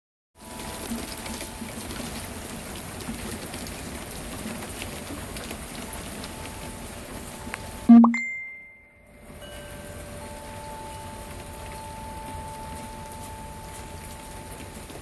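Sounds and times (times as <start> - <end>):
rain falling: 0.4 - 7.9, 9.2 - 15.0
raindrops ticking on surfaces: 0.4 - 7.9, 9.0 - 15.0.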